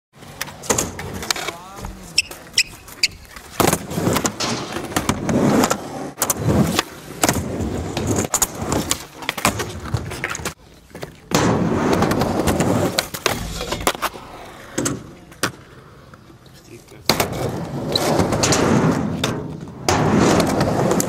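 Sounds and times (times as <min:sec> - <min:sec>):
skateboard wheels rolling on concrete: 0:00.1 - 0:21.0.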